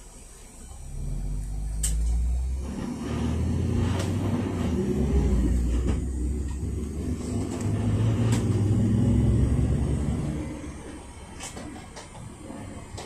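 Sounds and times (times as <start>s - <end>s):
minibus engine pulling away: 0.6s - 11.8s
low road rumble: 0.6s - 13.0s.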